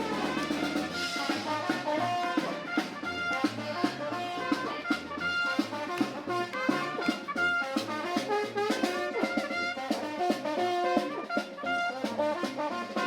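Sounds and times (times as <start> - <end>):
brass horns playing melody: 0.0 - 13.0
drum beat: 0.0 - 13.0.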